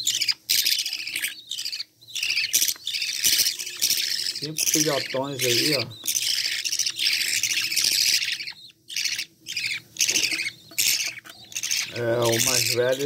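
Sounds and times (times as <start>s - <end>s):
budgerigar chicks begging calls: 0.0s - 13.0s.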